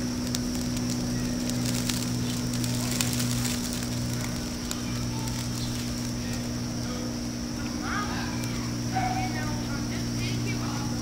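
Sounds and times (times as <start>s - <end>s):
steady low hum: 0.0s - 11.0s
tinder crackling: 0.0s - 11.0s.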